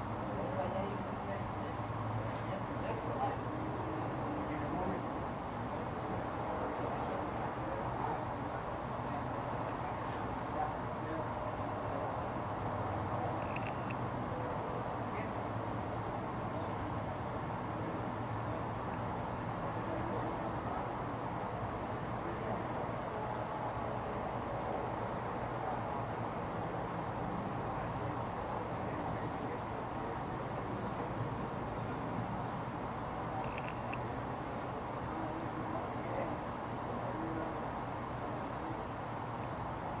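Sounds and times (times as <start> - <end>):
cricket trilling: 0.0 - 40.0.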